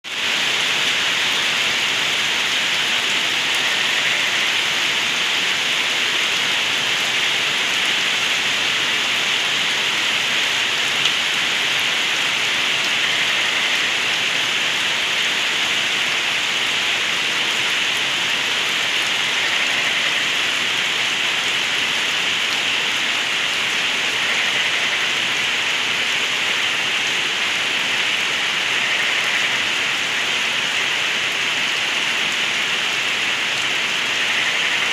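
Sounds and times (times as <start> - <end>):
heavy rain: 0.0 - 34.9
rainwater gurgling: 0.1 - 34.9.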